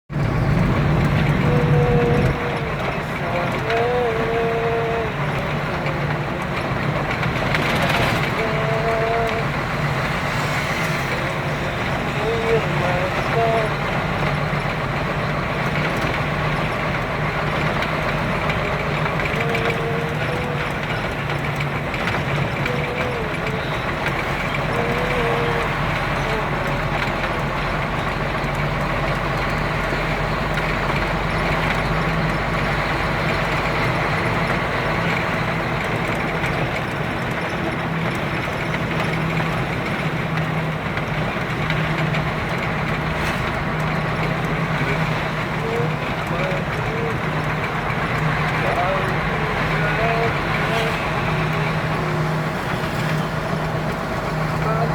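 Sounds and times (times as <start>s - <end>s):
vehicle engines running: 0.0s - 54.9s.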